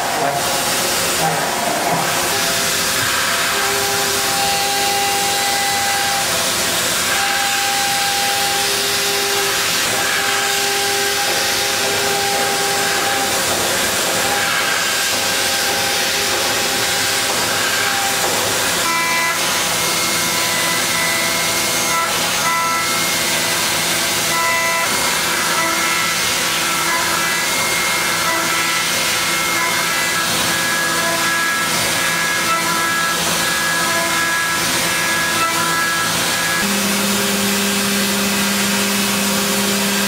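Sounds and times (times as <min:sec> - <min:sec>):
milling machine hiss and whine: 0:00.0 - 0:40.0.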